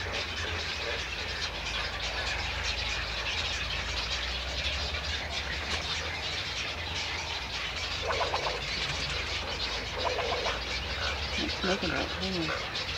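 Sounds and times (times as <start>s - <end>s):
birds calling and chattering: 0.0s - 12.9s.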